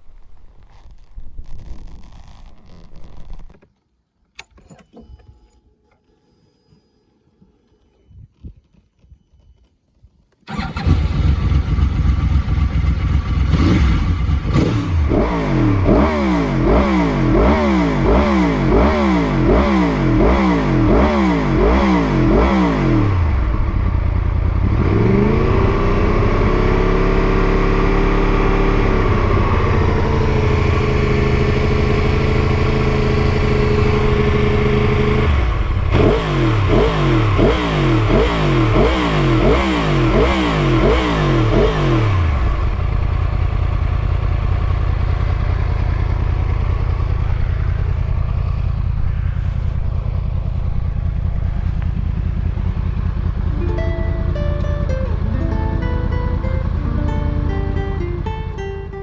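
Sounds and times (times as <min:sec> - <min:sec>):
motorcycle engine revving: 0:00.0 - 0:03.6, 0:10.5 - 0:59.0.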